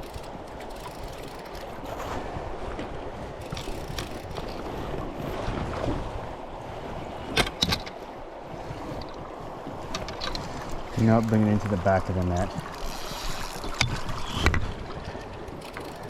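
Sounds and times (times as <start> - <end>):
water moving around raft: 0.0 - 16.0
wind buffeting microphone: 0.0 - 16.0.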